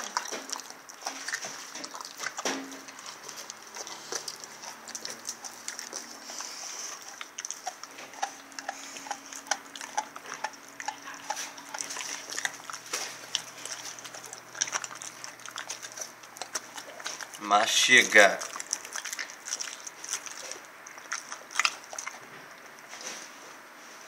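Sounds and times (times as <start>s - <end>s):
dog chewing raw meat: 0.0s - 23.3s.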